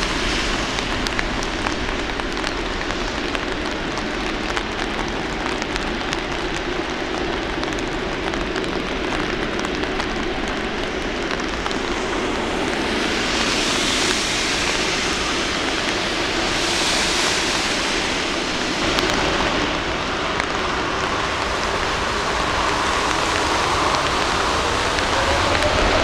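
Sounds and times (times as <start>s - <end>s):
jet engines running: 0.0s - 26.0s
rain hissing: 0.0s - 26.0s.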